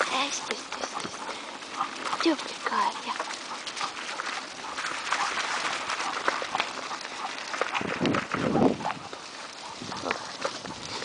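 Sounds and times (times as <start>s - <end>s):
bicycle tyres crunching on gravel: 0.0s - 11.0s.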